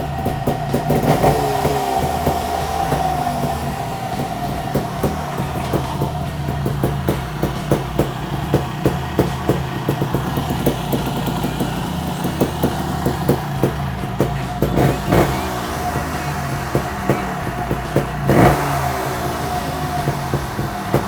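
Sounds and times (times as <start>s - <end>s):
engine popping: 0.0s - 21.0s
two-stroke engine idling: 0.0s - 21.0s.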